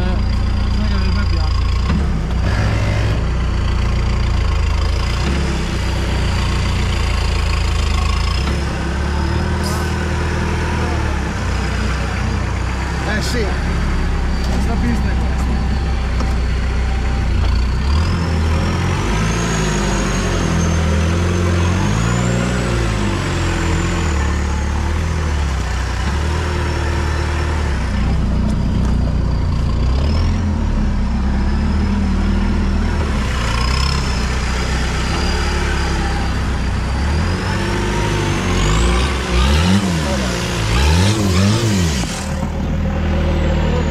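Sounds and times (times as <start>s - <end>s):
engine running under load: 0.0s - 43.9s.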